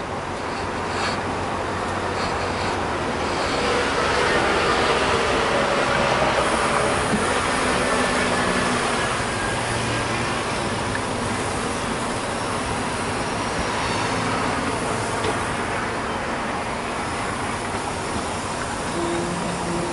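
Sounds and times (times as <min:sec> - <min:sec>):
train rushing and rumbling: 0:00.0 - 0:19.9.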